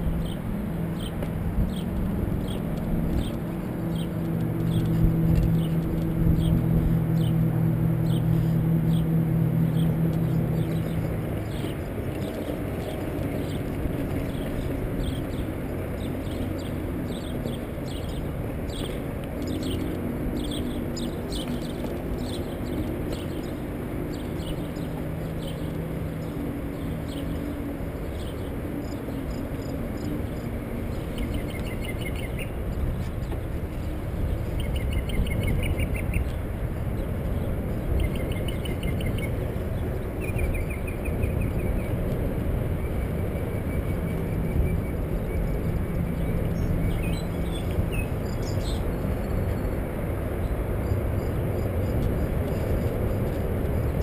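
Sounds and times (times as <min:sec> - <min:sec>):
engine hum: 0:00.0 - 0:54.0
rushing noise of riding: 0:00.0 - 0:54.0
small birds chirping: 0:00.1 - 0:07.4, 0:08.0 - 0:54.0.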